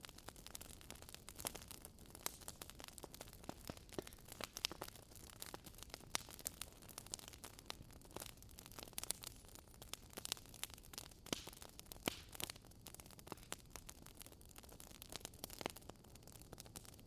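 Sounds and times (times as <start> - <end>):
soft steady hiss: 0.0 - 17.0
wood fire crackling and popping: 0.0 - 17.0.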